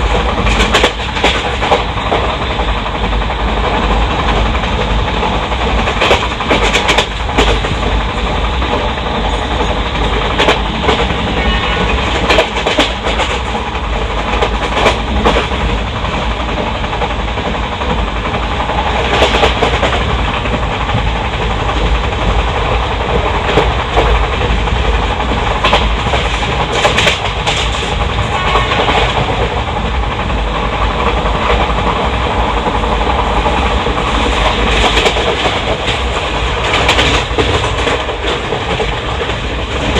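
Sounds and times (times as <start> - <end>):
train wheels rumbling on rail: 0.0 - 39.9
wheels clicking over rail joints: 0.0 - 39.9.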